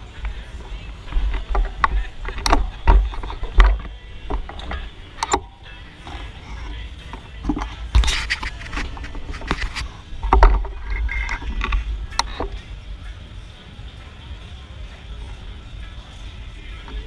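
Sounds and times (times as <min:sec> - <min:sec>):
bike knocking and rattling: 0:00.0 - 0:17.0.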